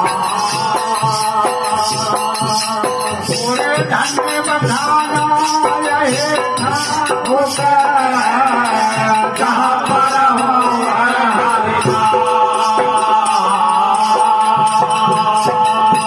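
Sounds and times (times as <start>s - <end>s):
hand cymbals struck: 0.0s - 16.0s
man singing into a microphone: 0.0s - 16.0s.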